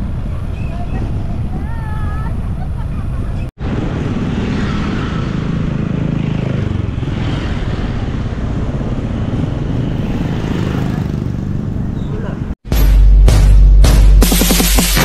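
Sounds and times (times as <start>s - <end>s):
wind and road noise: 0.0s - 12.7s.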